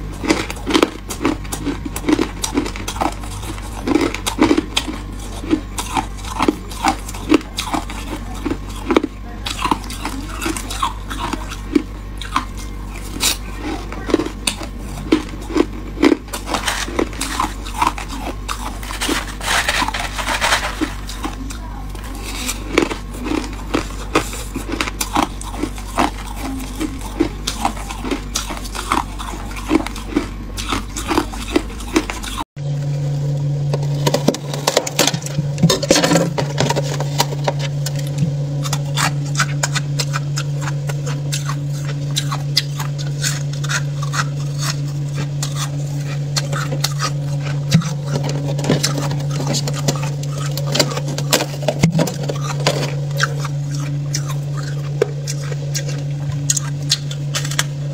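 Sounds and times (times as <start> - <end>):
freezer frost crackling: 0.0 - 57.9
low hum: 0.0 - 57.9
shaved ice being chewed: 0.0 - 57.9.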